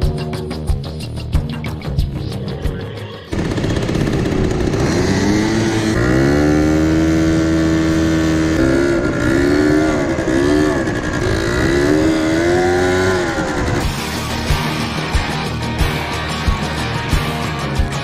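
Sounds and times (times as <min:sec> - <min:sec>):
quad bike engine revving: 0:03.3 - 0:18.0.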